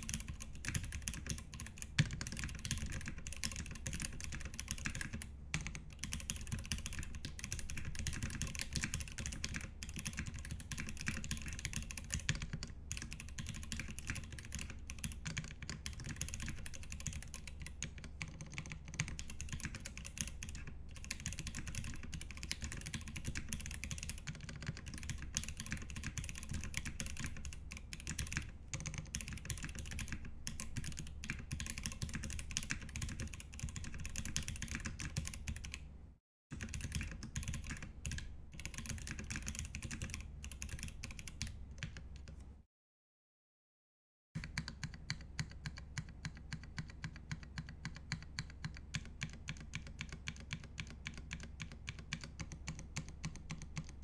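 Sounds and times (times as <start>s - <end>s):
mechanical keyboard typing: 0.0s - 35.8s, 36.6s - 42.4s, 44.4s - 54.0s.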